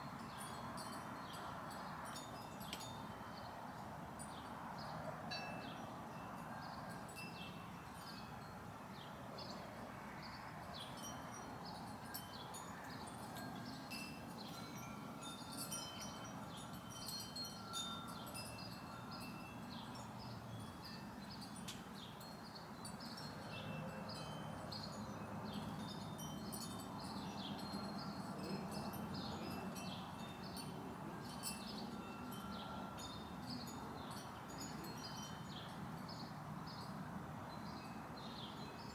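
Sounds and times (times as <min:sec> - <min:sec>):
wind chimes tinkling: 0:00.0 - 0:09.6, 0:10.7 - 0:38.9.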